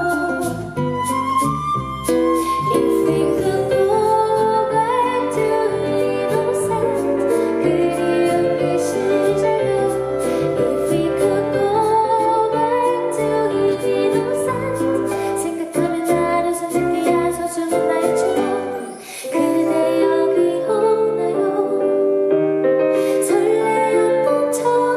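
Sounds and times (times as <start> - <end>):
woman singing: 0.0 - 1.0, 2.4 - 24.9
instrumental accompaniment: 0.0 - 24.9.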